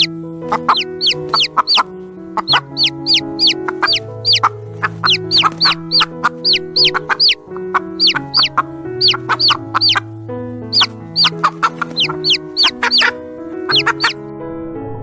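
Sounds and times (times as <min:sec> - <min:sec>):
chickens peeping: 0:00.0 - 0:10.1, 0:10.7 - 0:14.2
background music held notes: 0:00.0 - 0:15.0.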